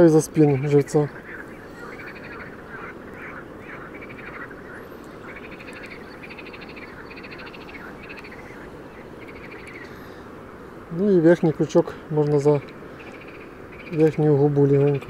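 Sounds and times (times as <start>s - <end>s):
frogs calling: 0.0s - 15.0s
low background noise: 0.0s - 15.0s.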